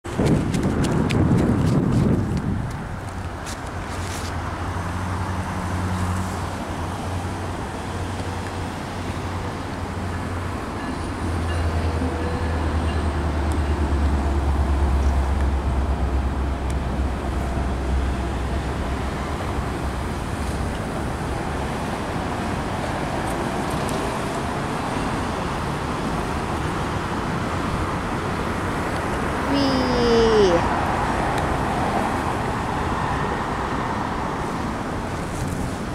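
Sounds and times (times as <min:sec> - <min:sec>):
road traffic: 0:00.0 - 0:35.9.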